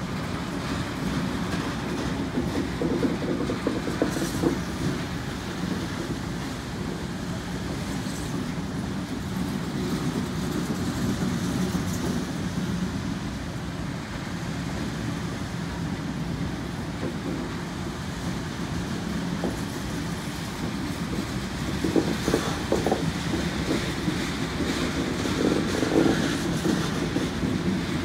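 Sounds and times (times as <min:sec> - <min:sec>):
freight locomotives passing: 0:00.0 - 0:28.0
rolling train wheels: 0:00.0 - 0:28.0.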